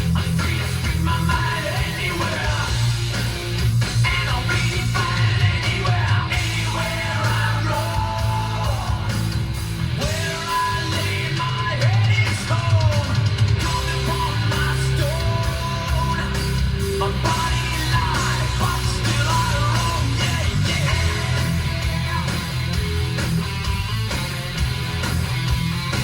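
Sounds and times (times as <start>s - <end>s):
rock song on car stereo: 0.0s - 26.0s.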